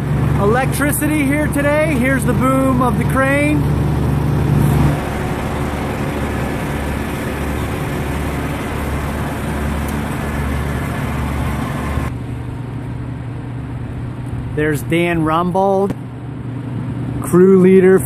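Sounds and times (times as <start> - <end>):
heavy machinery engines droning: 0.0 - 18.0.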